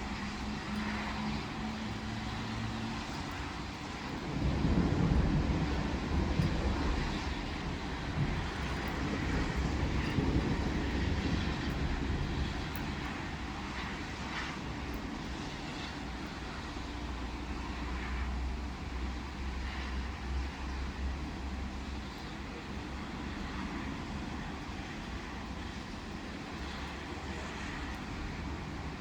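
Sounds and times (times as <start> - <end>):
tyres hissing on wet road: 0.0 - 29.0.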